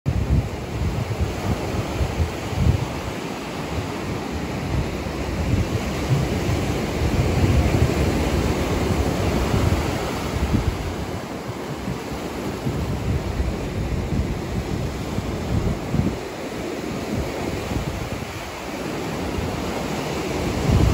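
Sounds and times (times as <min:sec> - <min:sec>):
wind: 0:00.0 - 0:20.9
ocean surf: 0:00.1 - 0:20.9.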